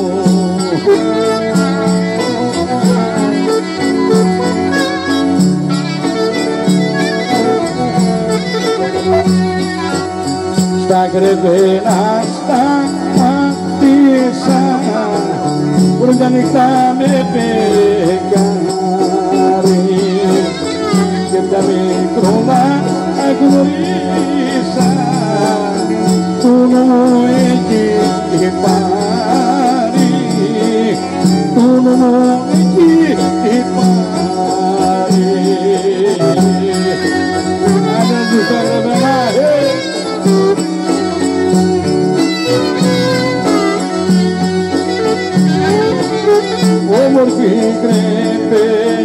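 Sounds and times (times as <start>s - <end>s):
folk music with ornamented melody: 0.0s - 49.0s.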